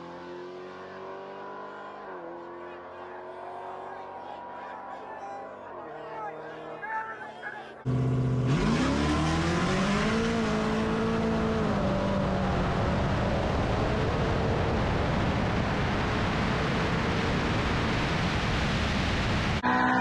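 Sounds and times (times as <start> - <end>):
wind and road roar: 0.0 - 6.8, 7.8 - 20.0
car engine accelerating: 0.0 - 20.0.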